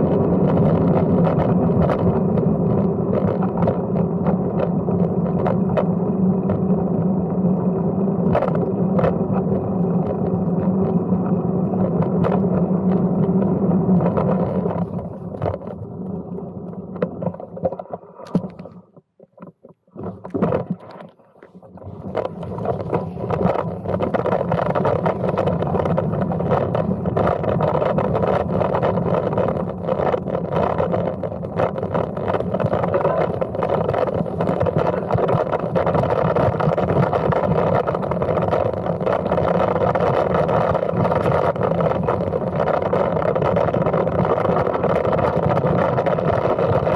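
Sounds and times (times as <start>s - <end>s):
bicycle tyre and wind noise: 0.0s - 46.9s.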